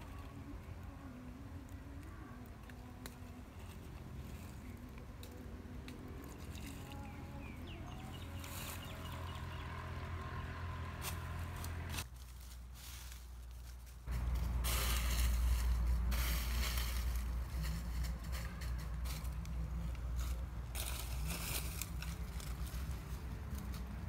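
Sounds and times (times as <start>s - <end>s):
dry leaves and soil scraping: 0.0s - 24.0s.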